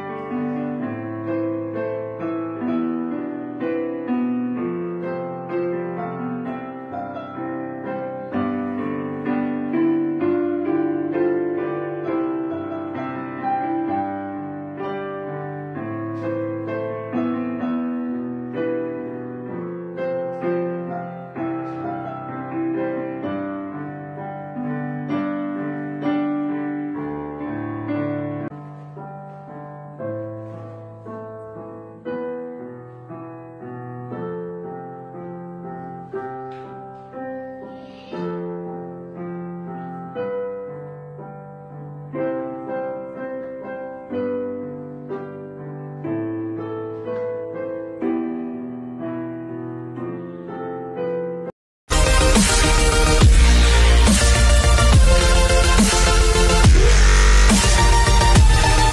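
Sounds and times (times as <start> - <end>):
piano music: 0.0 - 58.9.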